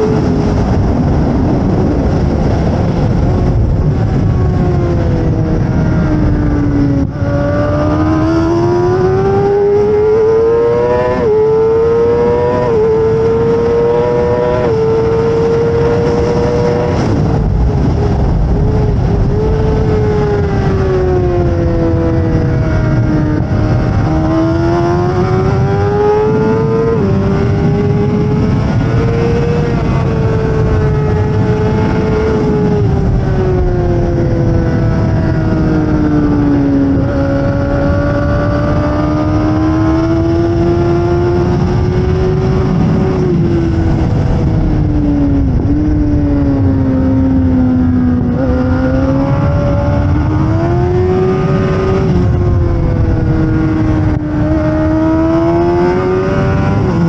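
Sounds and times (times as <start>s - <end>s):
motorcycle engine at high revs: 0.0s - 57.0s
wind and road noise: 0.0s - 57.0s.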